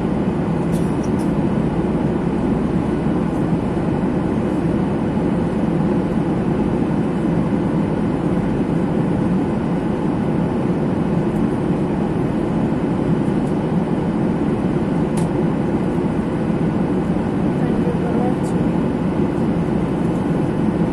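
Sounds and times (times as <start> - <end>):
airliner cabin engine rush: 0.0 - 20.9.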